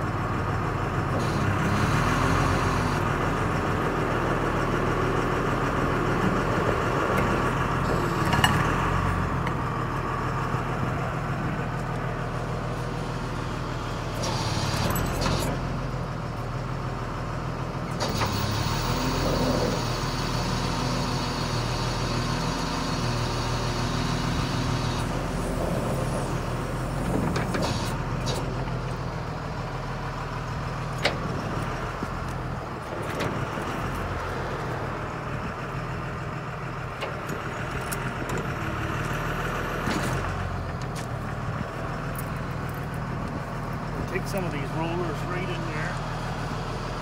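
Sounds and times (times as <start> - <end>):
drill rig engine running: 0.0 - 16.9, 17.5 - 47.0.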